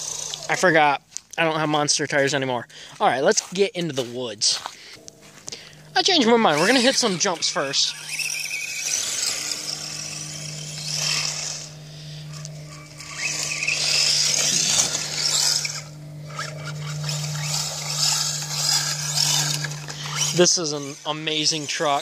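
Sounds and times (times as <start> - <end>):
rc truck motor whining: 0.0 - 1.0, 4.6 - 22.0
tyres spinning on snow: 0.0 - 1.0, 3.4 - 22.0.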